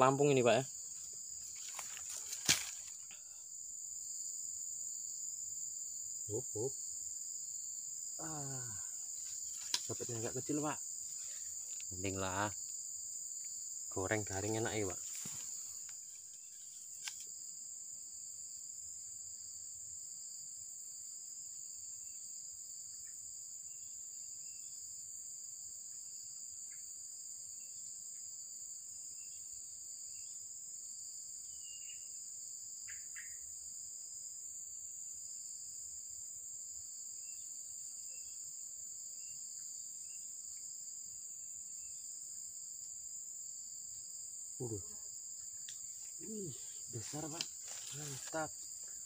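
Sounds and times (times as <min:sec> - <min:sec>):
crickets chirping chorus: 0:00.0 - 0:49.0.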